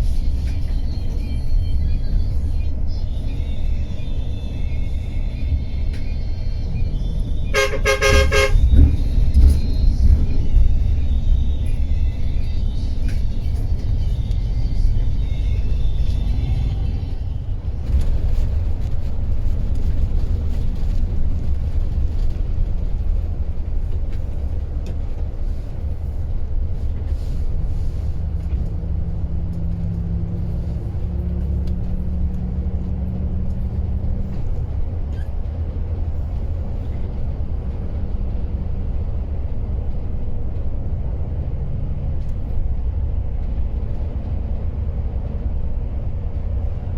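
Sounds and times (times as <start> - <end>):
coach engine and road rumble: 0.0 - 46.9.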